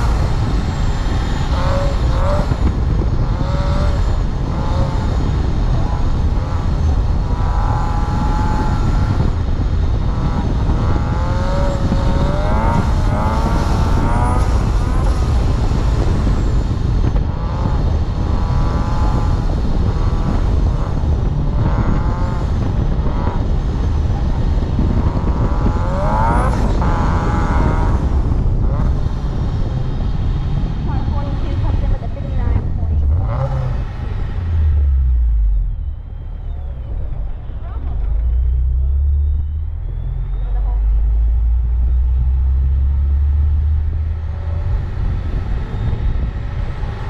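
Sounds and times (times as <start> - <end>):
car engine revving: 0.0 - 47.0
wind rumble on camera: 0.0 - 47.0.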